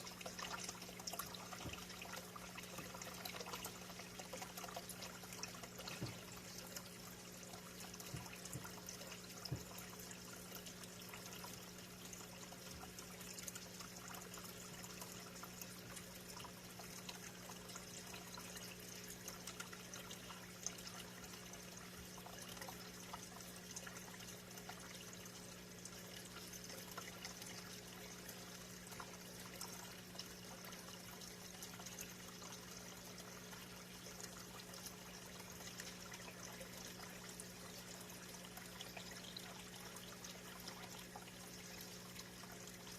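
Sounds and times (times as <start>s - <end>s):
low steady hum: 0.0s - 42.9s
water trickling: 0.0s - 42.9s.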